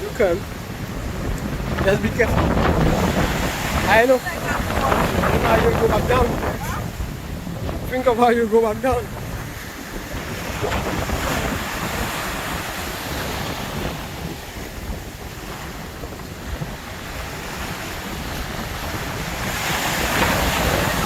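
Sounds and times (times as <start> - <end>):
sea surf washing ashore: 0.0 - 21.0
wind buffeting microphone: 0.0 - 21.0.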